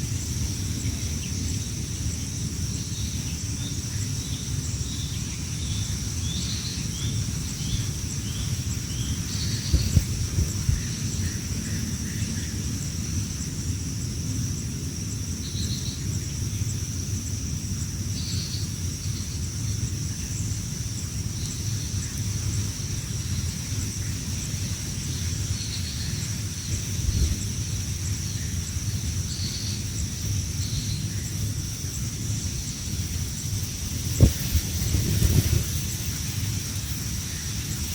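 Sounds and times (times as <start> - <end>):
high insect drone: 0.0 - 37.9
wind rumble on microphone: 0.0 - 37.9.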